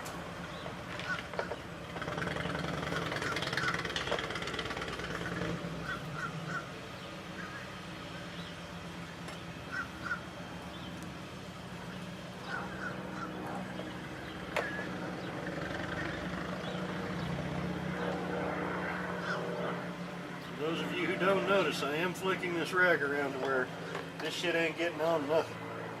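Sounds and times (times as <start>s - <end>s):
birds calling: 0.0s - 25.6s
steady low hum: 0.0s - 26.0s.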